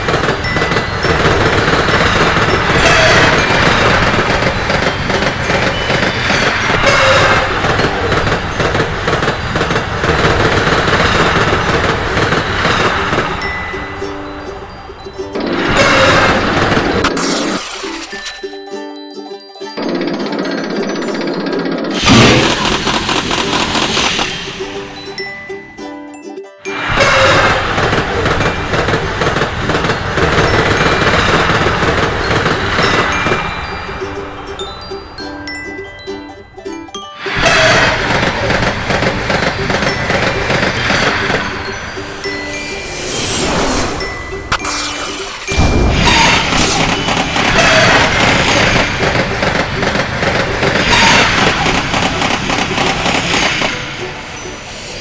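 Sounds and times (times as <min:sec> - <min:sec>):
train rumbling and wheel clatter: 0:00.0 - 0:18.4, 0:19.8 - 0:26.0, 0:26.7 - 0:55.0.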